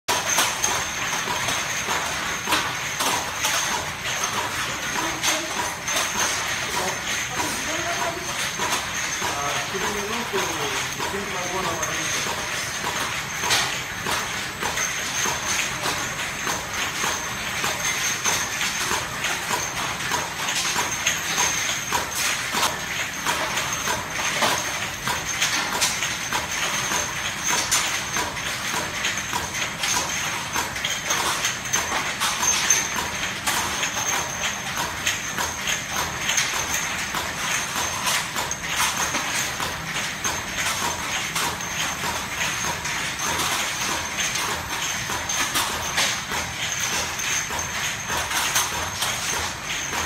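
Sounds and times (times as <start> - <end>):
glass bottles clinking: 0.1 - 50.0
labeling machine running with whine: 0.1 - 50.0.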